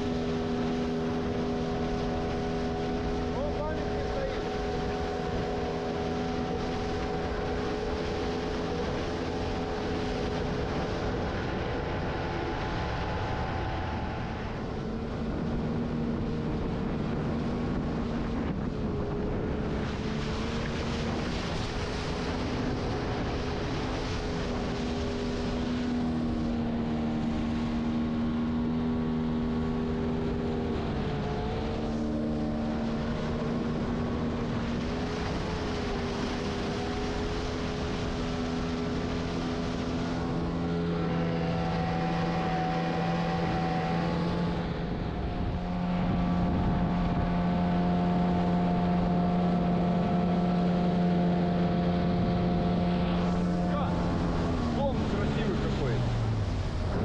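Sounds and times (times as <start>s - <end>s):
fast river water rushing: 0.0s - 57.0s
outboard motor running: 0.0s - 57.0s
wind: 0.0s - 57.0s.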